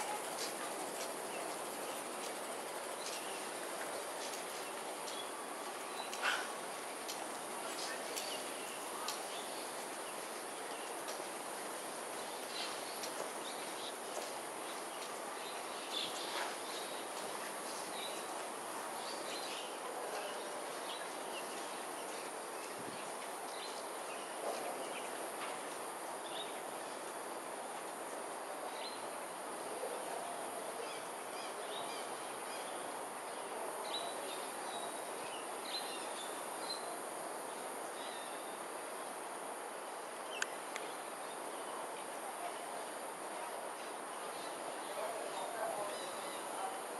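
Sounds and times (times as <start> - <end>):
steady background noise: 0.0 - 46.9.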